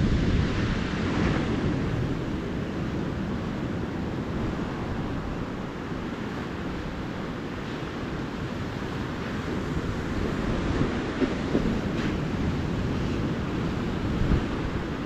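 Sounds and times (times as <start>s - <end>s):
ocean surf washing on sand: 0.0s - 15.0s.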